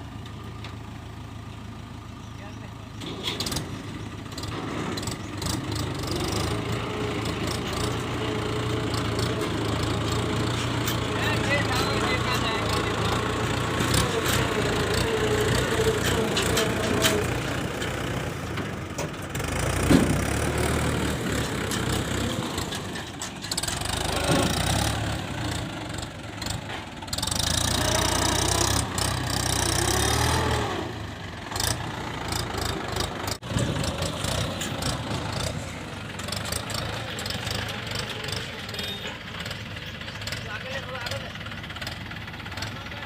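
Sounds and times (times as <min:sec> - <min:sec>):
backhoe diesel engine running: 0:00.0 - 0:43.0.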